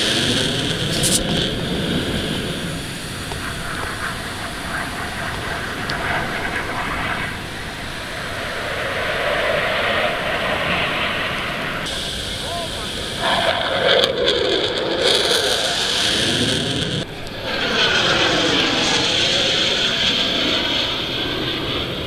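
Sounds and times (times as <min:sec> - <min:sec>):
fighter jets flying low: 0:00.0 - 0:22.0.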